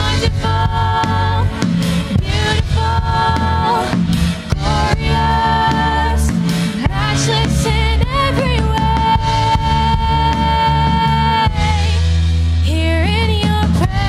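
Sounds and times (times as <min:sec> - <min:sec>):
drum kit: 0:00.0 - 0:14.0
electric guitar: 0:00.0 - 0:14.0
low bass line: 0:00.0 - 0:14.0.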